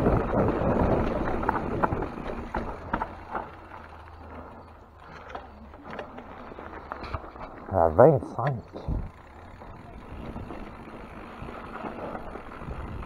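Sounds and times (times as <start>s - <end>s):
bike clicks and rattles: 0.0s - 13.0s.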